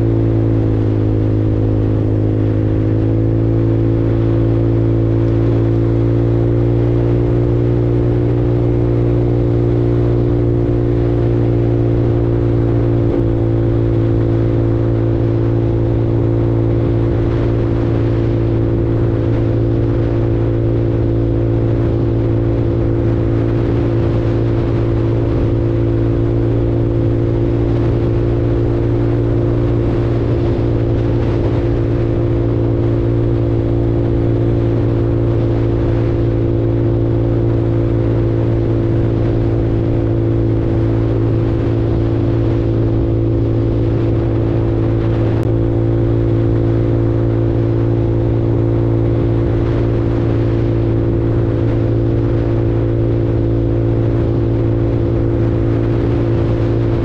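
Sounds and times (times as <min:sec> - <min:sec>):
motorcycle engine cruising: 0:00.0 - 0:57.0
road and wind noise: 0:00.0 - 0:57.0.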